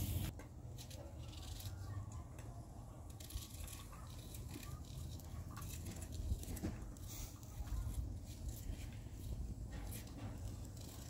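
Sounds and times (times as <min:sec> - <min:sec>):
knife scraping and cutting vegetable: 0:00.0 - 0:02.0, 0:03.0 - 0:11.0.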